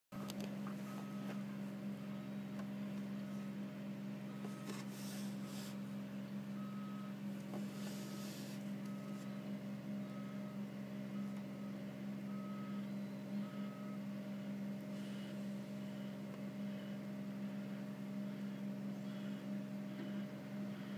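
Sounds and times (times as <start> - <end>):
reversing alarm beeping: 0.2 - 2.6, 4.2 - 5.4, 6.5 - 20.9
heavy diesel engines running: 0.2 - 20.9.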